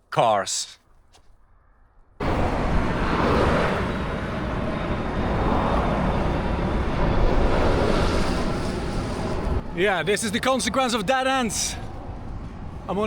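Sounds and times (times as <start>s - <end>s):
cars passing at speed: 2.2s - 13.0s.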